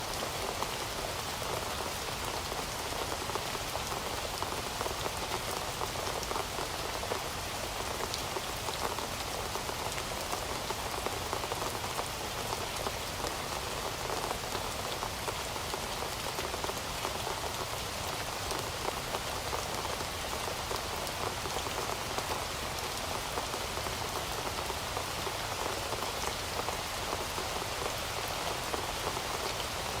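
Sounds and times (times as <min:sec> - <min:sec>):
rain falling on a surface: 0:00.0 - 0:30.0.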